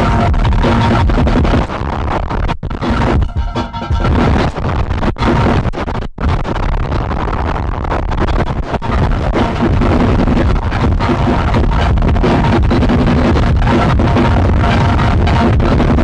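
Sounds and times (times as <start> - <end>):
noisy lo-fi tape music: 0.0 - 16.0.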